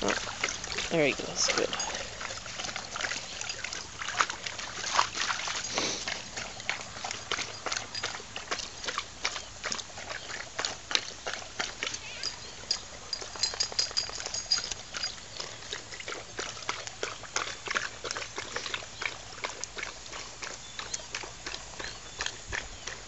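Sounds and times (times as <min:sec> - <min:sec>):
dogs lapping water: 0:00.0 - 0:23.0
garden hose running water: 0:00.0 - 0:23.0.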